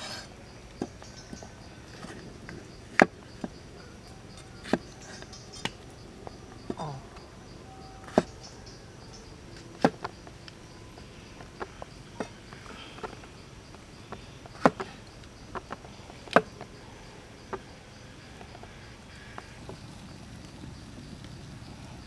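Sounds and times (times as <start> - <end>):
faint insect drone: 0.0 - 22.0.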